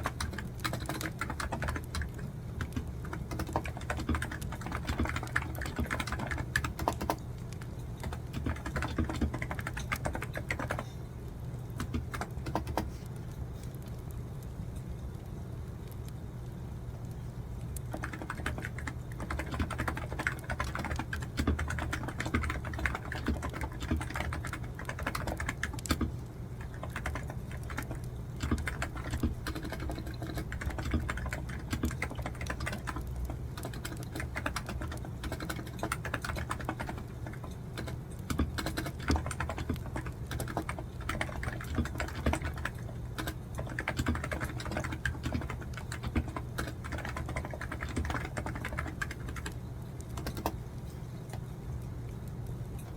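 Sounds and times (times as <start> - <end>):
fast keyboard typing: 0.0 - 10.9, 11.8 - 13.0, 17.8 - 50.6
steady low hum: 0.0 - 52.9.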